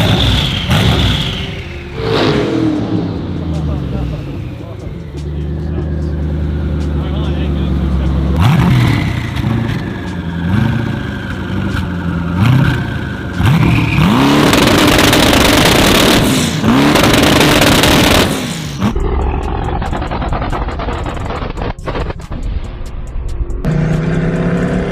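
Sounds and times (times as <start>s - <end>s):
car engine revving: 0.0s - 22.4s, 23.4s - 24.9s.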